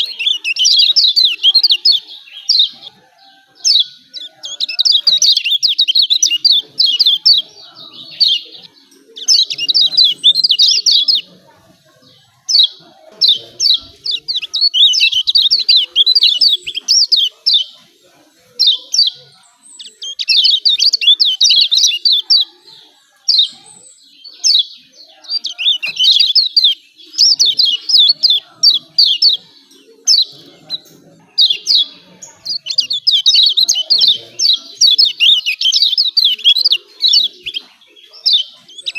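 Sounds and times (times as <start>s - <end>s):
bird chattering calls: 0.0s - 38.9s.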